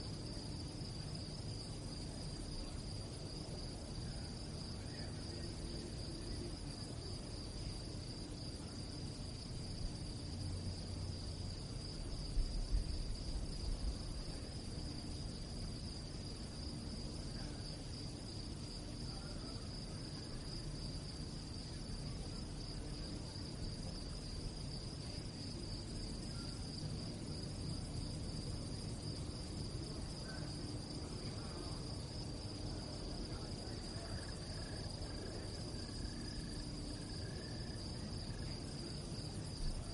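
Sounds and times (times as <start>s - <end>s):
crickets chirping: 0.0s - 39.9s
low background rumble: 0.1s - 39.9s.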